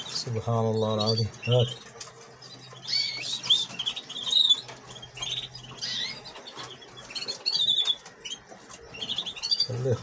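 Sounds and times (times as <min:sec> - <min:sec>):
nestlings begging chirps: 0:00.0 - 0:10.0.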